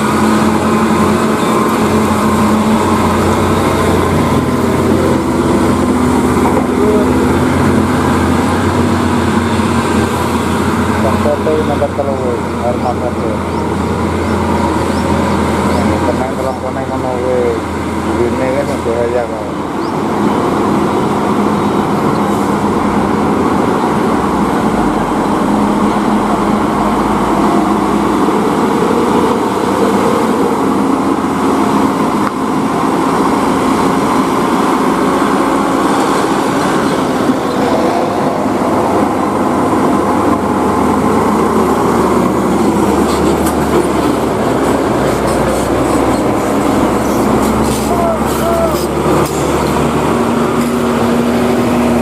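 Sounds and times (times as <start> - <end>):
truck diesel engine under load: 0.0 - 52.0.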